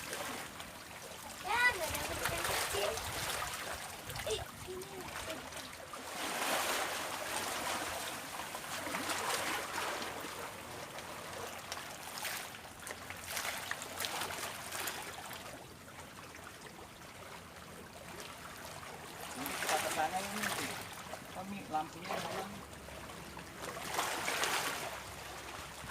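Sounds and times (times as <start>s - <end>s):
water sloshing along bank: 0.0s - 25.9s.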